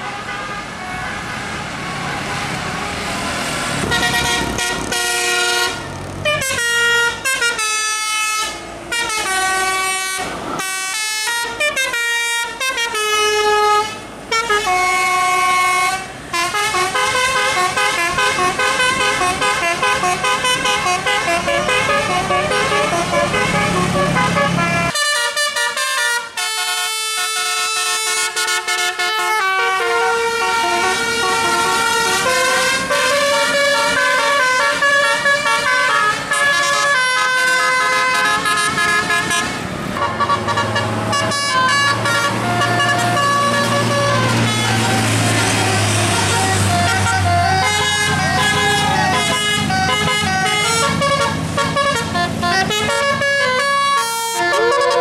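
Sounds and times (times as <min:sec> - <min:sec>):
bus engine running: 0:00.0 - 0:25.4, 0:28.1 - 0:55.0
musical bus air horns: 0:00.0 - 0:55.0.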